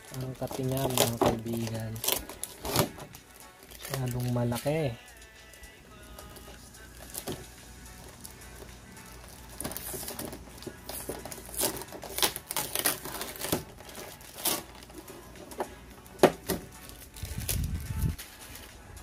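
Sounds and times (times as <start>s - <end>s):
plastic packaging crinkling: 0.0s - 5.0s, 6.2s - 18.8s.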